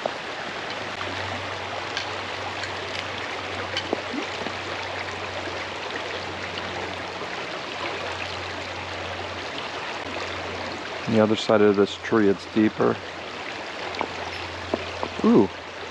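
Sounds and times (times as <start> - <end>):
creek running over rocks: 0.0 - 15.9.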